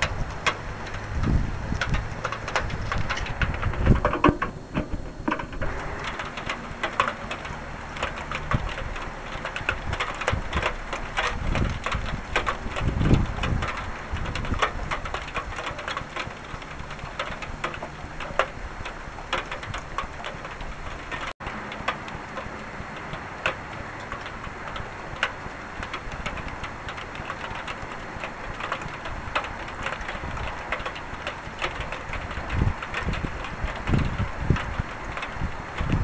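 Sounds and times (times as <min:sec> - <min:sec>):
raindrops ticking on hard surface: 0:00.0 - 0:36.0
steady rain hiss: 0:00.0 - 0:36.0.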